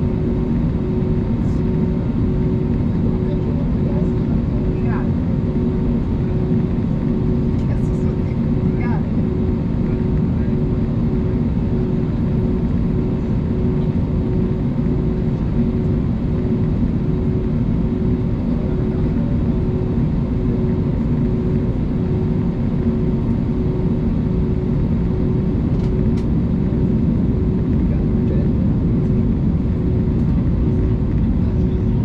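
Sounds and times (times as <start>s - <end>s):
aircraft cabin engine drone: 0.0s - 32.0s
low pulsing hum: 0.0s - 32.0s.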